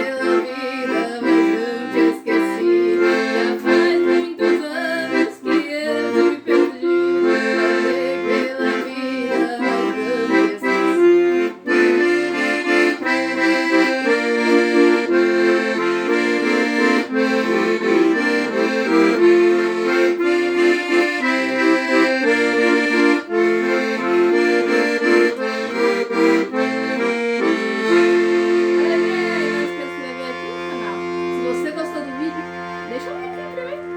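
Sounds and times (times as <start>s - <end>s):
solo instrument melody with chords: 0.0s - 33.9s.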